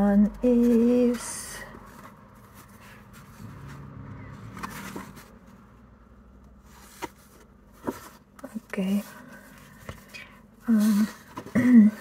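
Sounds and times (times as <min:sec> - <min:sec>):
rustling of photo prints: 0:00.3 - 0:05.7, 0:06.6 - 0:12.0.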